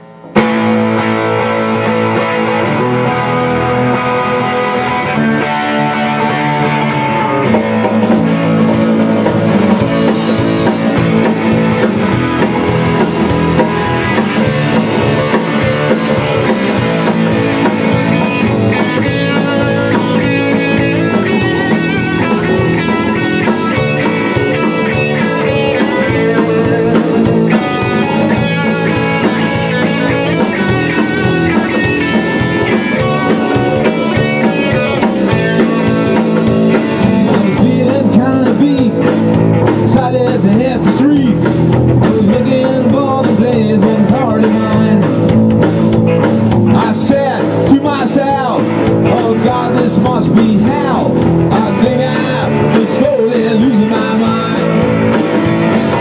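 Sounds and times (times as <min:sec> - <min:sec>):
drum kit with cymbals: 0:00.0 - 0:56.0
electric guitars: 0:00.0 - 0:56.0.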